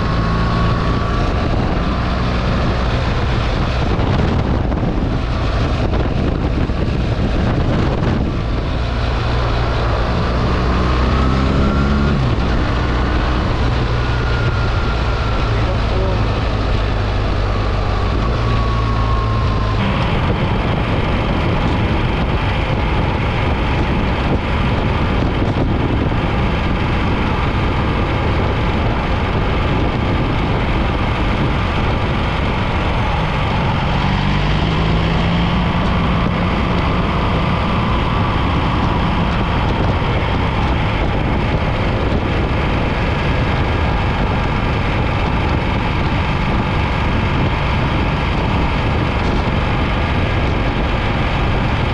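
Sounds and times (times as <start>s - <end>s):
motorcycle engine drone: 0.0s - 51.9s
wind rushing over microphone: 0.0s - 51.9s.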